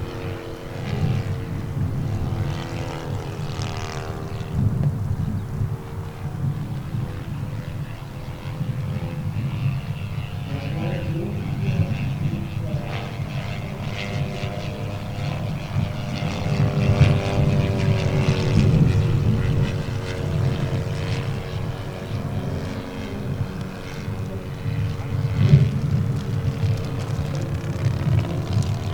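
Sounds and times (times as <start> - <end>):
model plane engine and propeller: 0.0 - 28.9
wind rumbling on microphone: 0.0 - 28.9.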